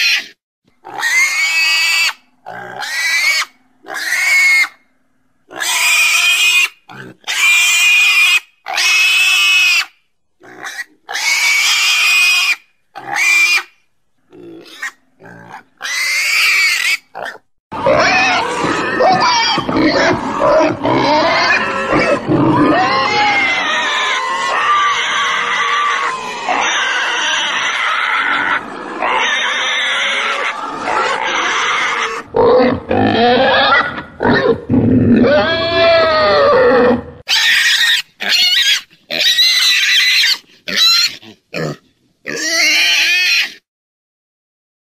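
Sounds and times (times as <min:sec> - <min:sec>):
pigs squealing and grunting: 0:00.0 - 0:04.8, 0:05.5 - 0:43.6.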